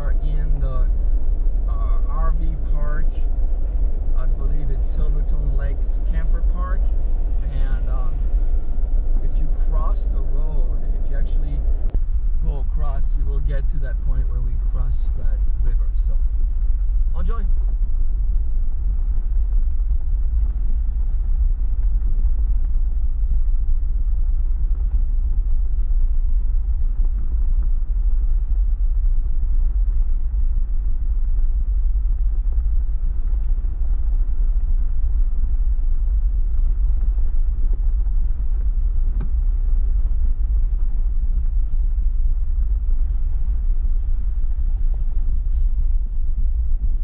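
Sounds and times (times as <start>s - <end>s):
car engine and road rumble: 0.0s - 47.0s.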